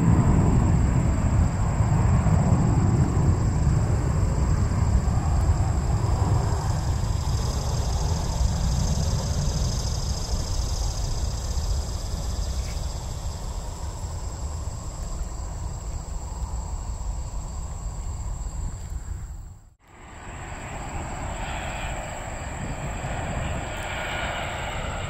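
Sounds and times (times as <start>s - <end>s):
distant jet engine rumble: 0.0s - 25.0s
insects trilling: 0.1s - 25.0s.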